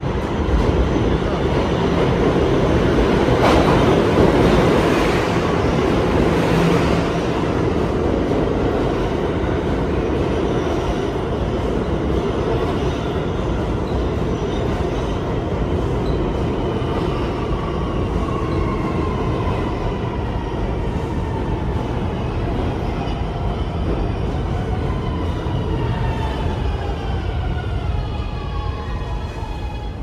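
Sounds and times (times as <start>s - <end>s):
subway train rumbling on rails: 0.0s - 30.0s.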